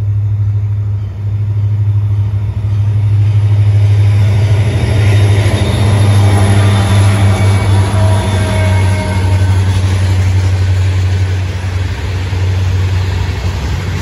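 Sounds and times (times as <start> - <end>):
diesel locomotive engine drone: 0.0 - 14.0
train wheel and rail noise: 0.0 - 14.0.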